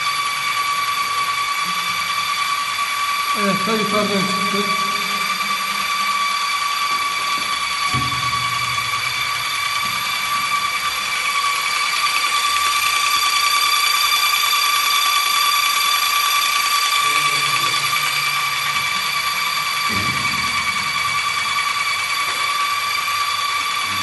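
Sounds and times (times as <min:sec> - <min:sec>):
pump whining: 0:00.0 - 0:24.0.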